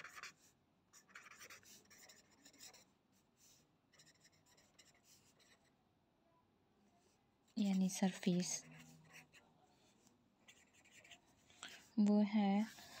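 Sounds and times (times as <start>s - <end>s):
pen scratching on paper: 0.0s - 5.7s, 7.5s - 13.0s.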